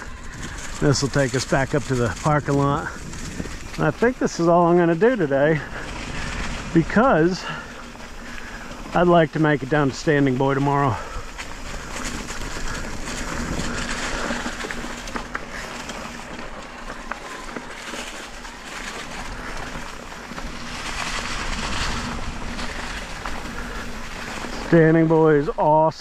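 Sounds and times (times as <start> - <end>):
wind noise: 0.0 - 25.6
bike rattles and clicks: 0.0 - 26.0
bike tyres rolling over dirt: 0.0 - 26.0.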